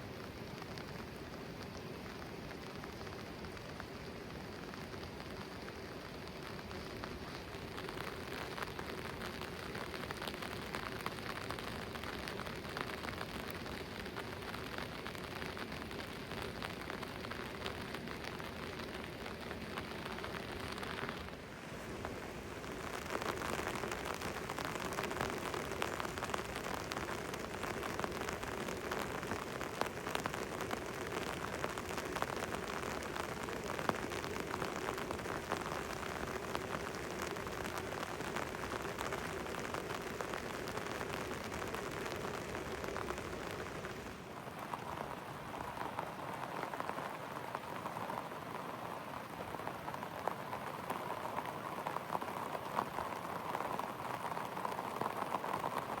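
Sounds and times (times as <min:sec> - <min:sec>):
rain falling: 0:00.0 - 0:56.0
raindrop ticks: 0:00.3 - 0:56.0.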